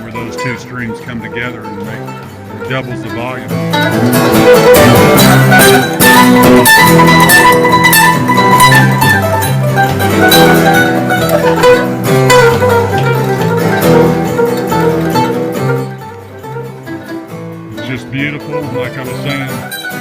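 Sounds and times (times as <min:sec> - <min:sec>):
guitar picking: 0:00.0 - 0:20.0
mandolin picking: 0:00.0 - 0:20.0
walking bass line: 0:00.0 - 0:20.0.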